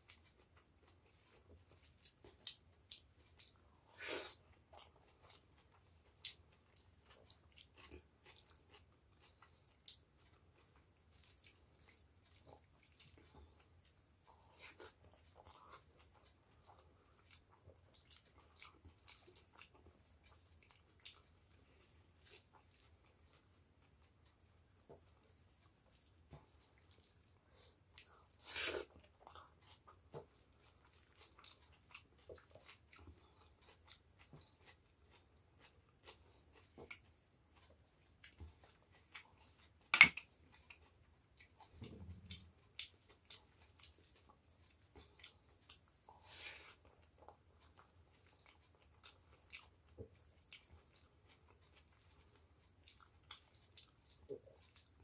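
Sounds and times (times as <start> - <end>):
cricket chirping: 0.0 - 55.0
soft chewing: 0.0 - 55.0.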